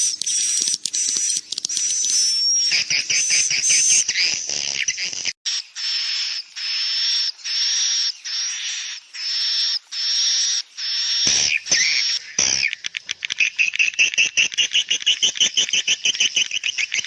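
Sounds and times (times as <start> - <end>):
high buzzy bird chirrs: 0.0 - 17.0
birds twittering: 1.6 - 5.2, 5.8 - 17.0.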